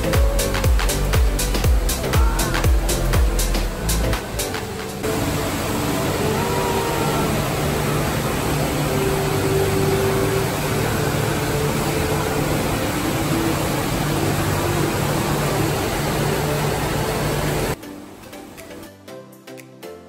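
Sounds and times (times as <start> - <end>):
indoor waterfall roaring: 0.0 - 18.8.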